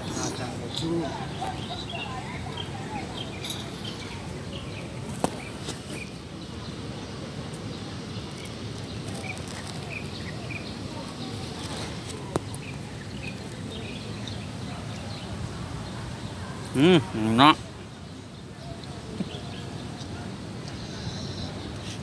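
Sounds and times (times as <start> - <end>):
background hum of park: 0.0 - 22.0
small birds chirping: 0.0 - 22.0.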